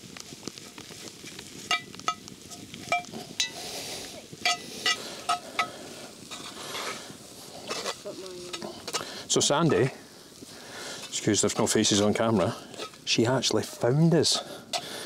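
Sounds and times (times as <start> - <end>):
food sizzling while frying: 0.0 - 15.0.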